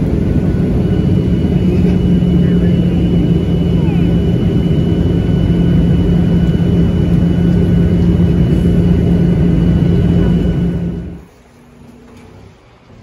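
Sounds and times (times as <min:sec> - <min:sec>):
high whining tones: 0:00.0 - 0:11.2
jet engines roaring in cabin: 0:00.0 - 0:11.3.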